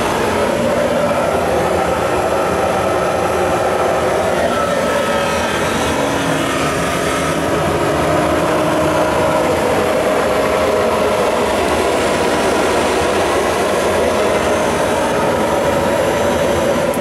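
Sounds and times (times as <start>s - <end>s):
blower fan motor running: 0.0s - 17.0s.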